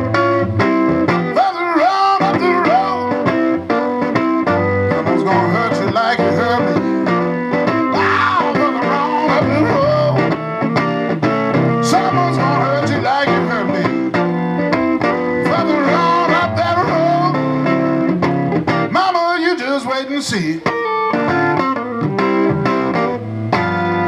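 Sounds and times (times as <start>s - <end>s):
blues band playing: 0.0s - 24.0s
lead guitar bent notes: 0.0s - 24.0s.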